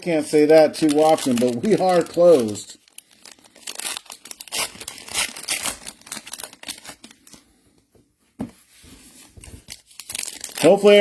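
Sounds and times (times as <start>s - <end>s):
plastic packaging tearing and crinkling: 0.0s - 7.5s, 9.4s - 11.0s.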